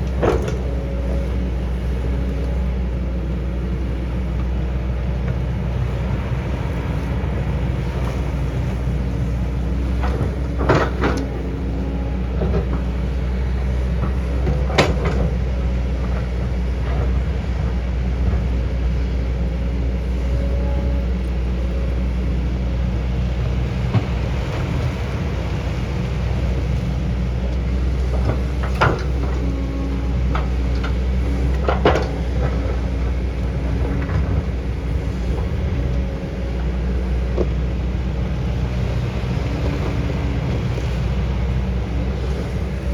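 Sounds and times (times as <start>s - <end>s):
diesel engine under load: 0.0s - 42.9s.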